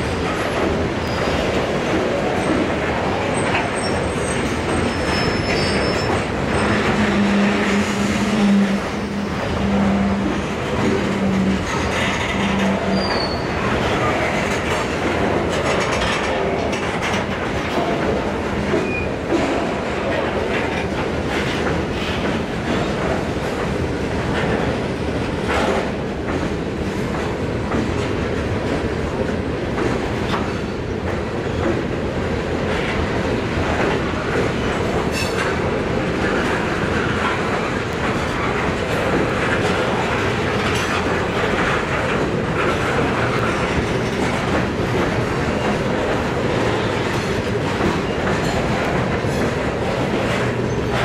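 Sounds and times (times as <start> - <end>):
freight train wheels rumbling: 0.0 - 51.0
wheels clacking over rail joints: 0.0 - 51.0.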